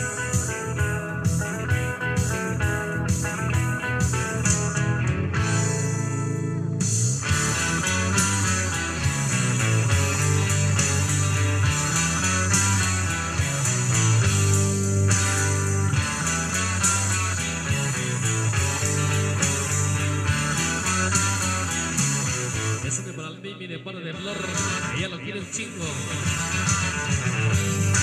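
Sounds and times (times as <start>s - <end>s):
dance music with guitar and beat: 0.0s - 28.0s.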